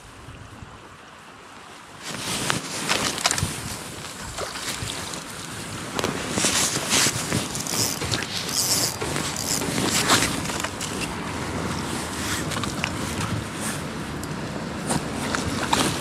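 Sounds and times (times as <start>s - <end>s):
river rushing: 0.9s - 16.0s
handling rustles and knocks: 2.0s - 16.0s
wind on microphone: 2.0s - 16.0s.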